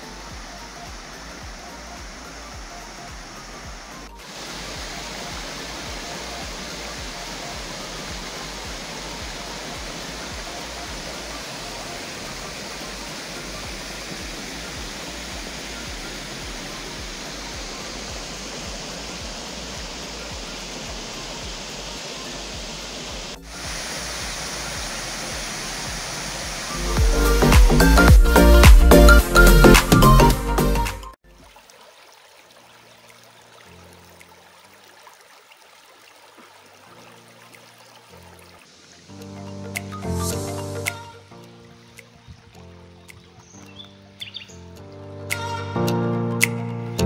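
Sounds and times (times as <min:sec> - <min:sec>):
creek water rushing over rock: 0:00.0 - 0:30.0, 0:31.2 - 0:45.9.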